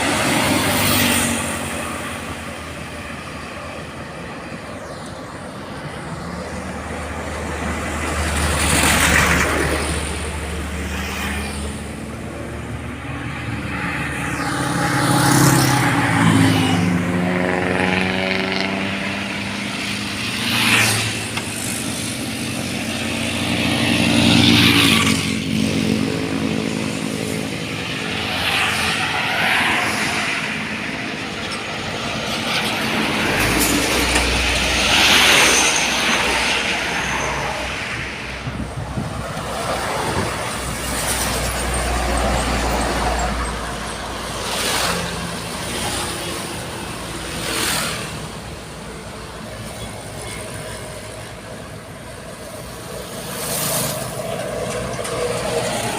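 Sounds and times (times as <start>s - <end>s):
vehicles passing: 0.0s - 55.9s.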